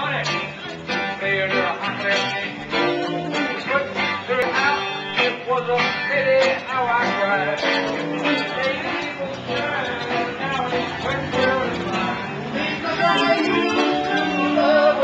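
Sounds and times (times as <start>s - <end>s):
person singing: 0.0s - 15.0s
strummed guitars: 0.0s - 15.0s.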